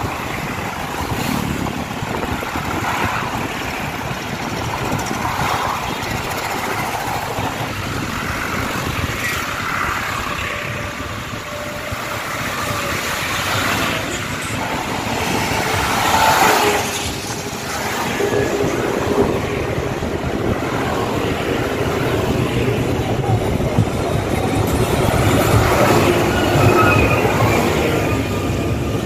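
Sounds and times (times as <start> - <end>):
road traffic noise: 0.0 - 29.0
tractor engines passing: 0.0 - 29.0.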